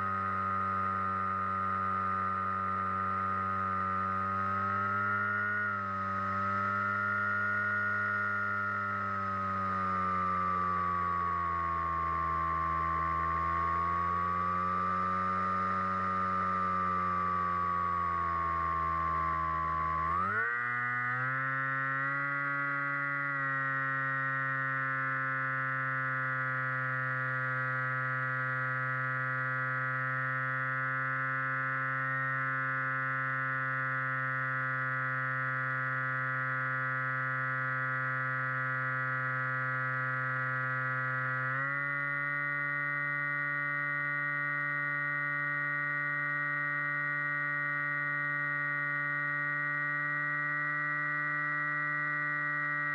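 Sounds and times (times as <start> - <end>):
electric motor and propeller whining: 0.0 - 52.9.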